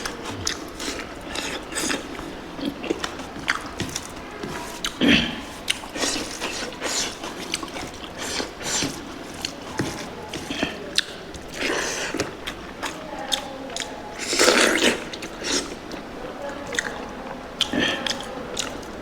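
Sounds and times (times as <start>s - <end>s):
chewing with wet smacks: 0.0s - 19.0s.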